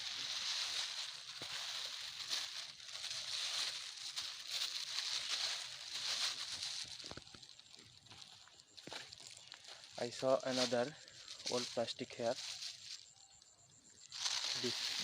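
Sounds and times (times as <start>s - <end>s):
plastic sheeting crinkling: 0.0s - 13.0s, 14.1s - 15.0s.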